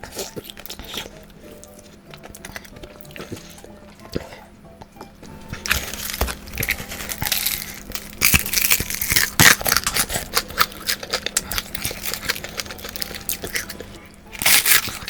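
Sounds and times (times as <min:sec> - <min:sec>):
crunching and chewing crispy food: 0:00.0 - 0:15.0
faint steady hum: 0:00.0 - 0:15.0.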